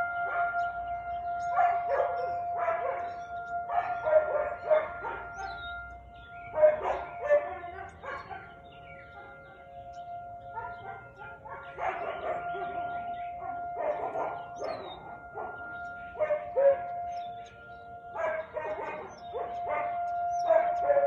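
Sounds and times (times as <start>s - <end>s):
husky barking: 1.4s - 5.9s, 6.5s - 9.7s, 10.5s - 17.3s, 18.0s - 21.0s.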